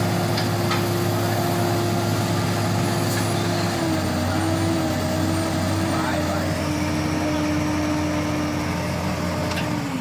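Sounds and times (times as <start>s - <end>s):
large vehicle engine running: 0.0s - 10.0s.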